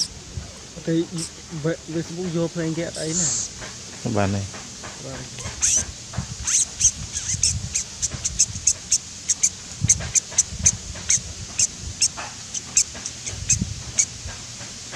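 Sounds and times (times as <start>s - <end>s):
bird chirping rapidly: 0.0s - 3.6s, 5.4s - 14.2s.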